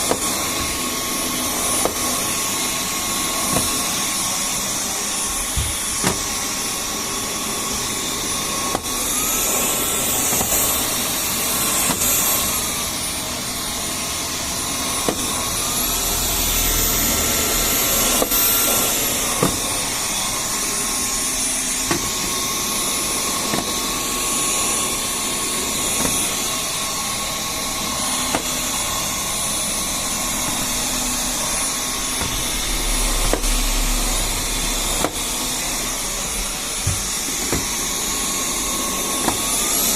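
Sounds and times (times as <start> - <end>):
stick vacuum motor whine: 0.0 - 39.9.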